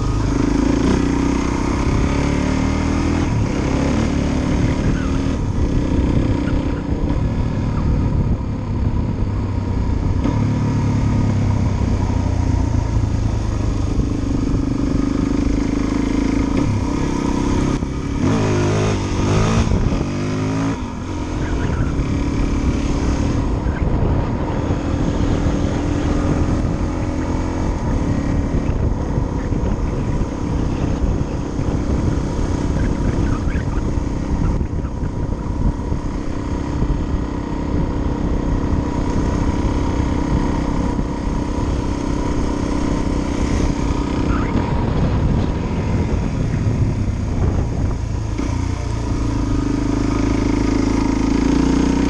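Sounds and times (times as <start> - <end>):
motorcycle engine revving through gears: 0.0 - 52.0.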